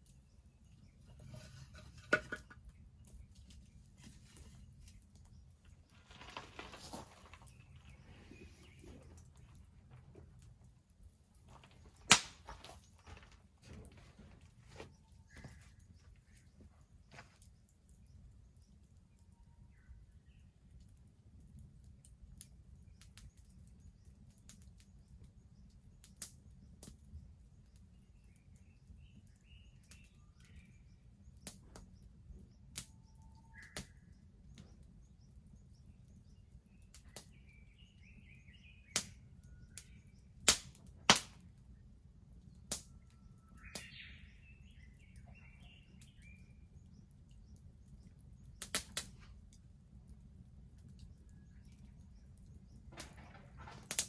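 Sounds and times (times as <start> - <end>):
birds chirping: 0.0 - 20.6, 27.8 - 40.4, 41.4 - 54.0
wood fire crackling: 0.0 - 54.0.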